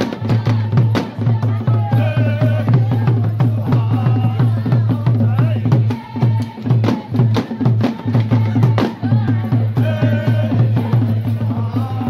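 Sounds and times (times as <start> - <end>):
fast drum beat with deep thuds: 0.0 - 12.0
voices singing or calling: 0.0 - 12.0.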